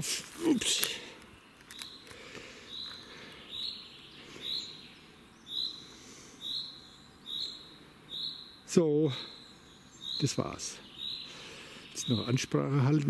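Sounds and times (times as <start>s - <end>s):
songbird calling: 0.0s - 13.0s.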